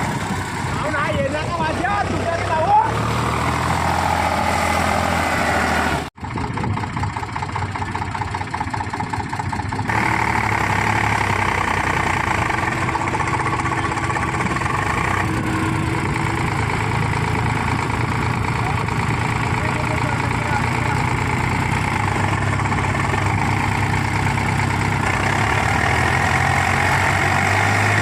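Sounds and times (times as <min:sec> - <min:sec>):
tractor diesel engine idling: 0:00.0 - 0:03.9, 0:06.2 - 0:28.0.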